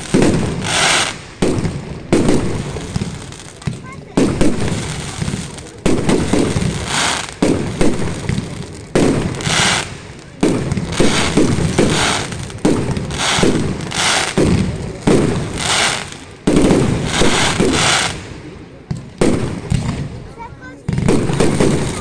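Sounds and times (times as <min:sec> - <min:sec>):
fireworks bangs: 0:00.0 - 0:22.0
fireworks hissing: 0:00.0 - 0:22.0.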